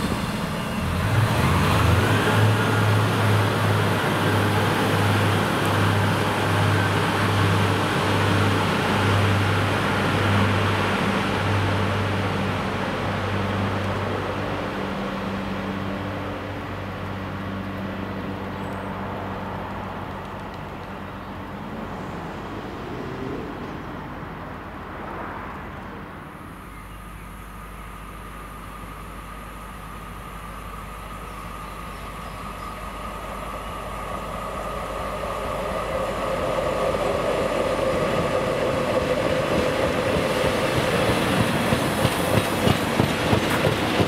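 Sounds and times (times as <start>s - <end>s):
diesel train engine droning: 0.0s - 44.0s.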